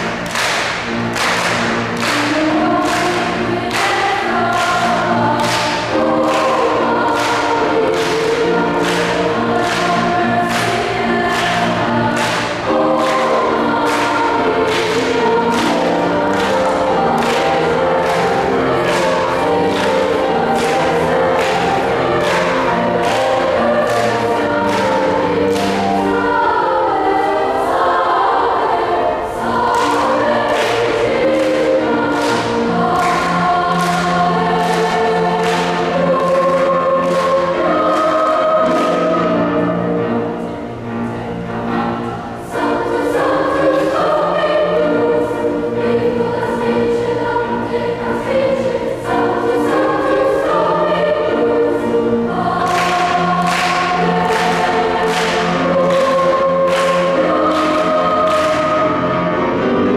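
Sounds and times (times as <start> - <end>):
choir singing gospel song: 0.0 - 59.9
sustained low accompaniment notes: 0.0 - 59.9.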